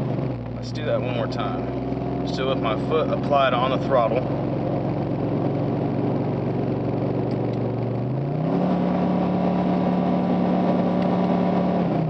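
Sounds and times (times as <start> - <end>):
engine revving from inside cab: 0.0 - 12.0.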